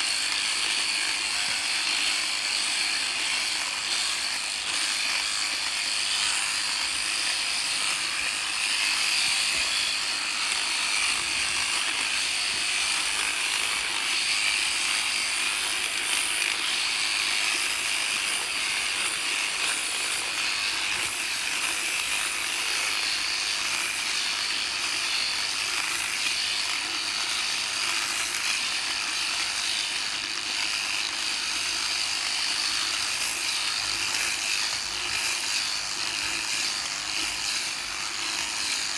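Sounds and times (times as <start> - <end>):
electric sheep shears chattering: 0.0 - 38.9.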